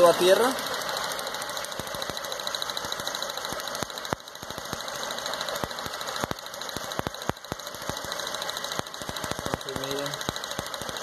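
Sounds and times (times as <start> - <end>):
engine running rough: 0.0 - 11.0.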